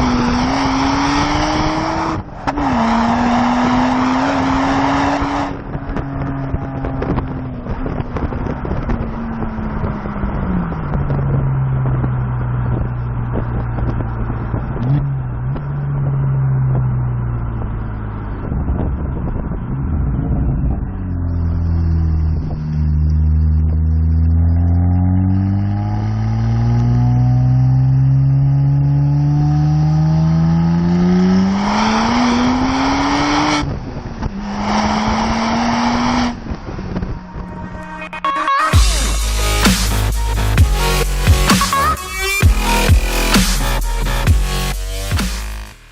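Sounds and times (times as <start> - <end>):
car exhaust revving: 0.0 - 45.9
exhaust crackling: 0.0 - 45.9.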